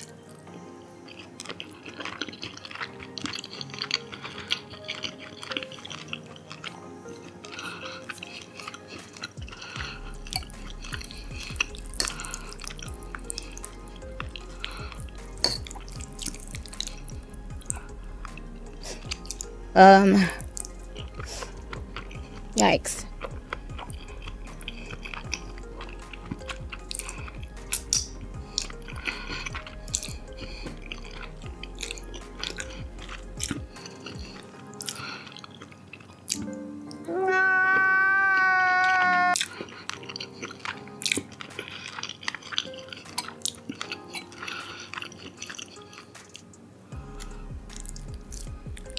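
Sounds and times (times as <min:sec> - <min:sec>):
background music: 0:00.0 - 0:48.9
wet chewing: 0:00.0 - 0:48.9
fork twirling sauced noodles: 0:01.1 - 0:06.8, 0:07.4 - 0:19.5, 0:23.1 - 0:35.7, 0:37.4 - 0:46.4.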